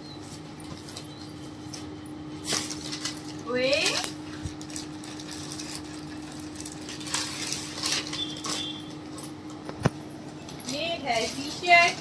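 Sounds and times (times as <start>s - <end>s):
gift packaging rustling: 0.2s - 9.4s, 10.3s - 12.0s.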